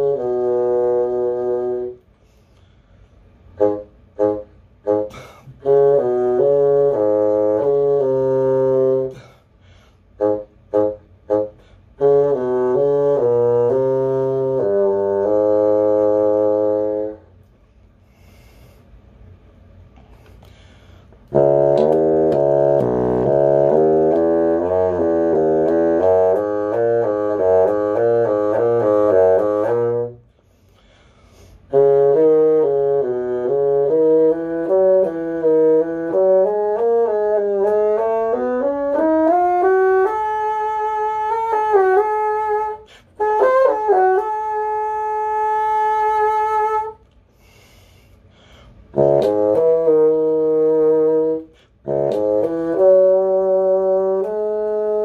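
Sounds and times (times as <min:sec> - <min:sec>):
solo bassoon playing: 0:00.0 - 0:02.6, 0:03.3 - 0:09.4, 0:10.0 - 0:17.6, 0:20.9 - 0:48.1, 0:48.8 - 0:55.0.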